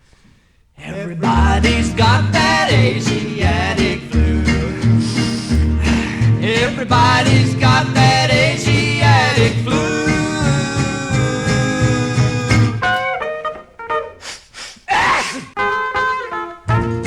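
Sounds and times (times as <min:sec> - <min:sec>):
rockabilly band with guitar: 0:00.9 - 0:14.4, 0:15.5 - 0:17.0.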